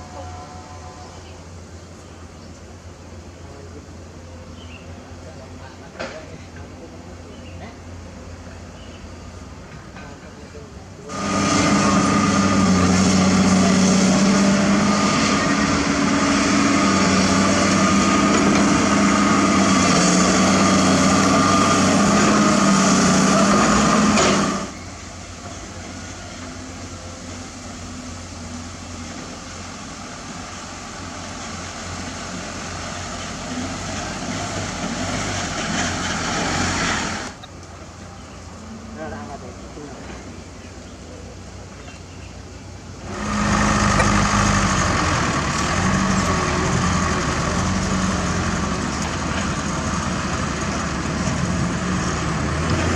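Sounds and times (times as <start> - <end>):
heavy machinery diesel engines: 0.0 - 52.9.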